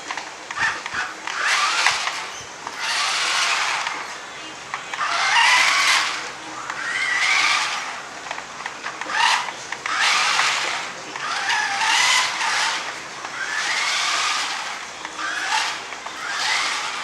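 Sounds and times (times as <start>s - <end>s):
robot rubbing squealing noise: 0.6s - 4.2s, 5.0s - 8.2s, 9.0s - 17.0s.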